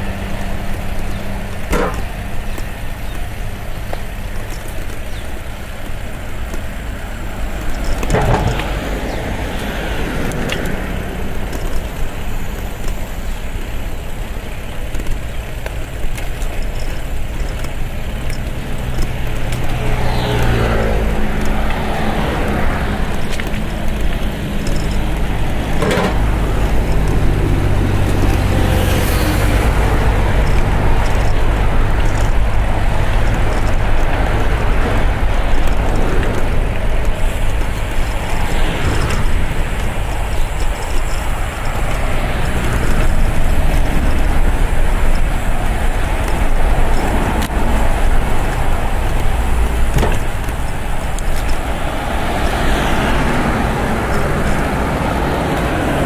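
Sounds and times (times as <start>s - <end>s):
heavy engine drone passing: 0.0s - 14.8s, 15.4s - 56.0s
road traffic rumble: 0.0s - 56.0s.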